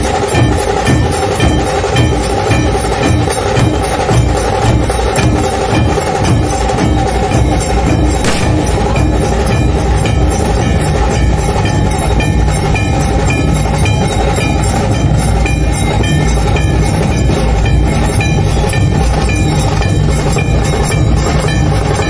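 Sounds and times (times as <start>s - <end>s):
ensemble drumming: 0.0s - 22.0s.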